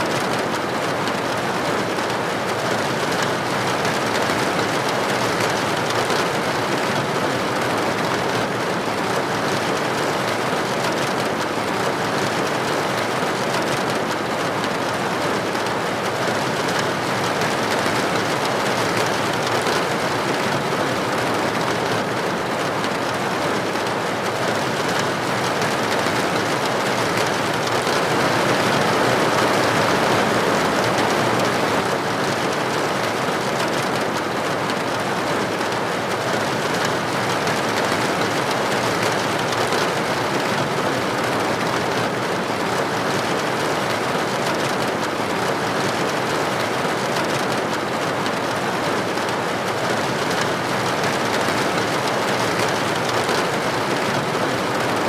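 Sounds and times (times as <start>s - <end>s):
rain on a window or roof: 0.0s - 55.0s.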